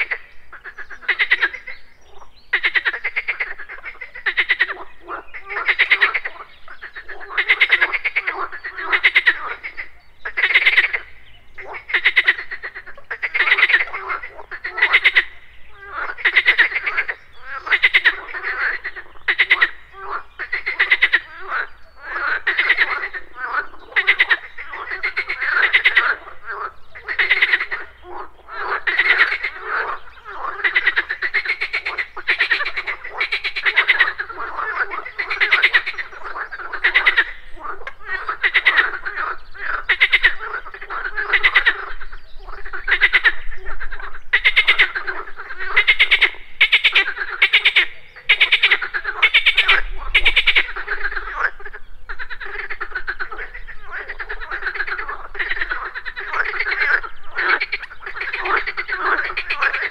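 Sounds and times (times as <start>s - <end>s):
frogs croaking: 0.0s - 59.9s.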